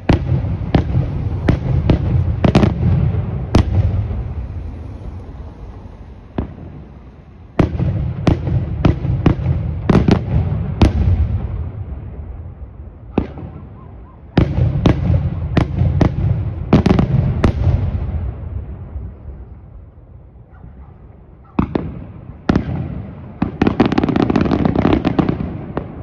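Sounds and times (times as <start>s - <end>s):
fireworks bangs: 0.0s - 19.9s, 20.6s - 26.0s.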